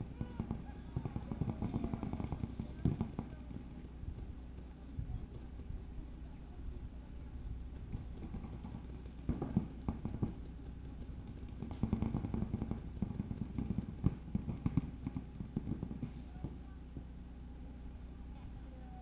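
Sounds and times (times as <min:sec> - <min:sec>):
paintball markers firing: 0:00.0 - 0:05.9, 0:07.2 - 0:16.8
low steady rumble: 0:00.0 - 0:19.0.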